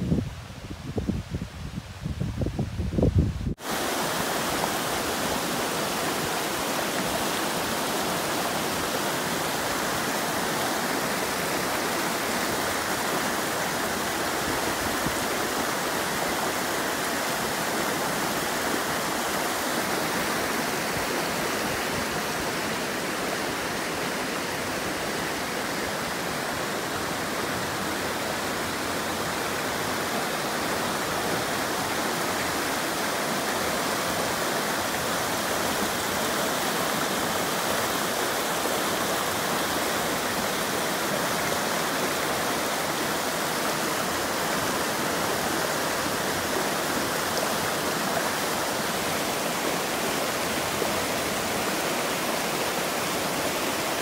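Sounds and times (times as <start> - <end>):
water rushing over rocks: 3.6 - 54.0.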